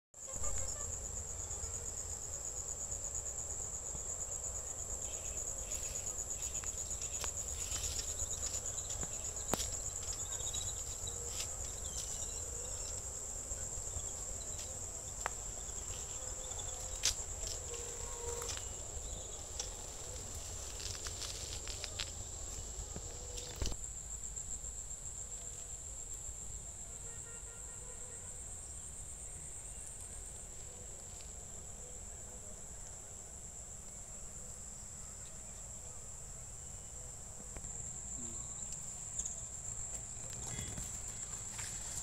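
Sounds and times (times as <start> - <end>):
crickets chirping: 0.2 - 42.0.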